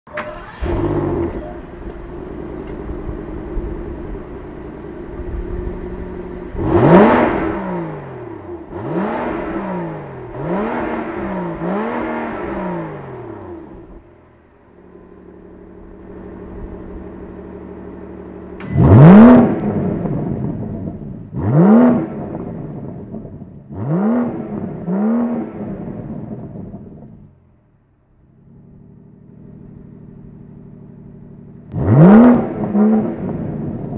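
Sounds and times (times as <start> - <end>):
car engine revving: 0.2 - 27.5, 28.1 - 33.9.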